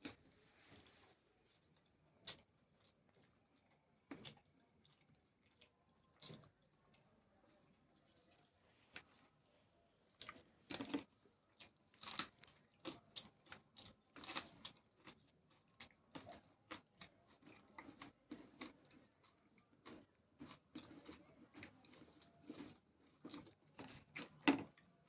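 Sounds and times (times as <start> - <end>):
person chewing crisp vegetables: 0.0 - 7.0, 10.1 - 25.0.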